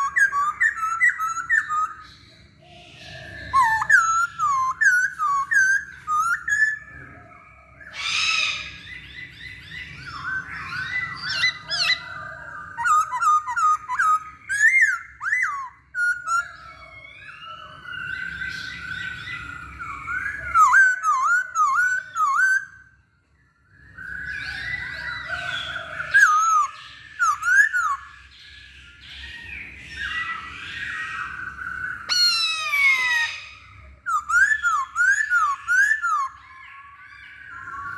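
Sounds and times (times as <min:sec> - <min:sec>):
bird singing whistled phrases: 0:00.0 - 0:23.0, 0:23.7 - 0:37.9.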